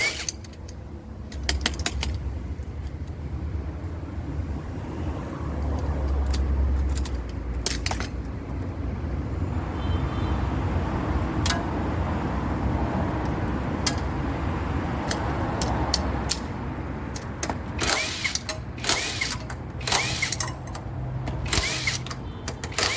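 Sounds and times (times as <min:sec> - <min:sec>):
vehicle engine rumbling: 0:00.0 - 0:22.9.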